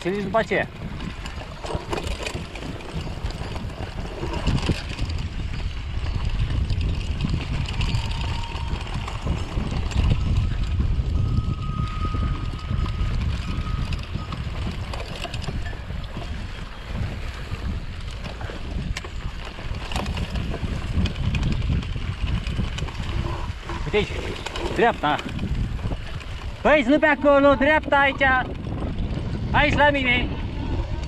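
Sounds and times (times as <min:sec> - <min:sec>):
wind buffeting microphone: 0:00.0 - 0:31.0
bike knocks and rattles: 0:00.4 - 0:11.3, 0:12.1 - 0:27.0.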